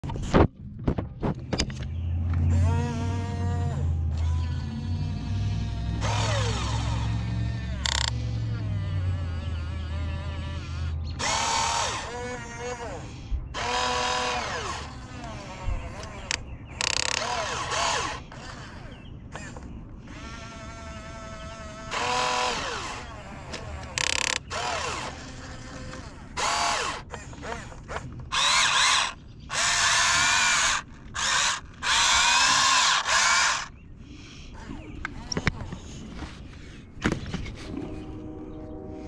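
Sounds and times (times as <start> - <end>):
electric gear motors whining: 1.6 - 33.8.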